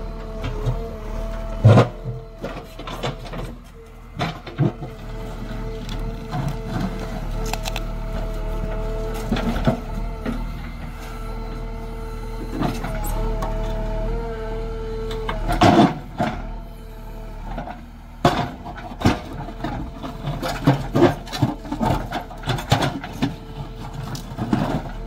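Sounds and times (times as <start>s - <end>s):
backhoe engine whining: 0.0s - 25.0s.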